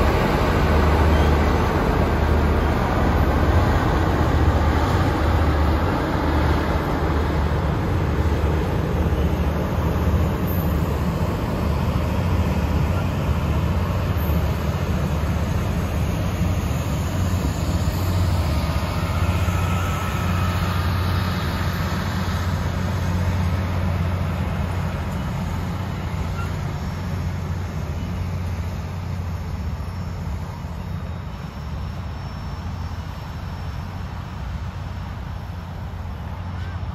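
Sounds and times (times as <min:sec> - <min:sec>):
passenger train rolling on rails: 0:00.0 - 0:36.9.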